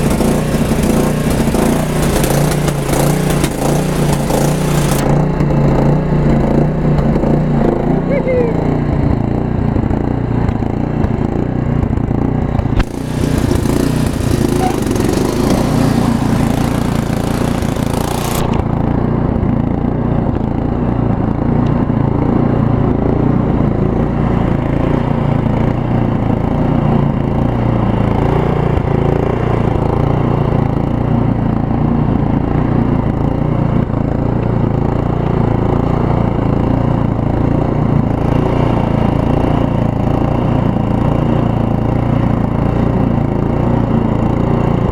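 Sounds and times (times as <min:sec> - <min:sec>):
lawn tractor engine running: 0:00.0 - 0:44.9.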